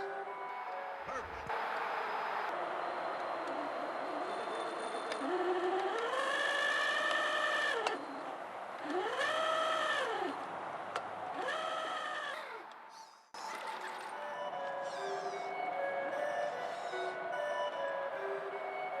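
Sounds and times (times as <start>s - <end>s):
electric motor and gear whine: 0.0s - 19.0s.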